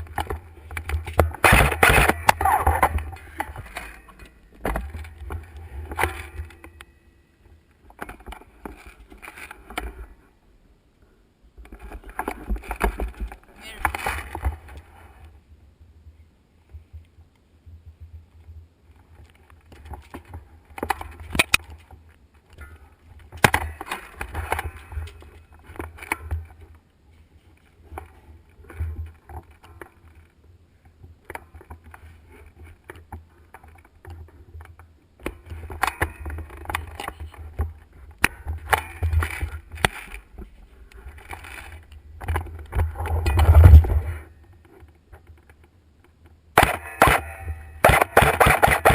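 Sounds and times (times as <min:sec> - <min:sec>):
rustles: 0:00.0 - 0:48.9.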